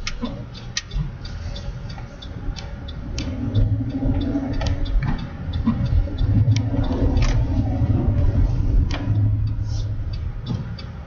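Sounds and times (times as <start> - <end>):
sharp clicks: 0.0 - 11.0
truck engine and road rumble: 0.0 - 11.0.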